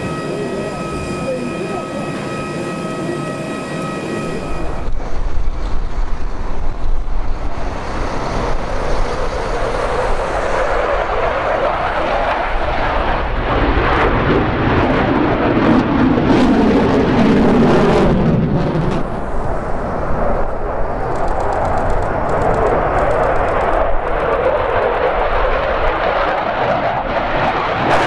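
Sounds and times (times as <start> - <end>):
fighter jet engine roar: 0.0 - 28.0
steady whine: 0.0 - 28.0.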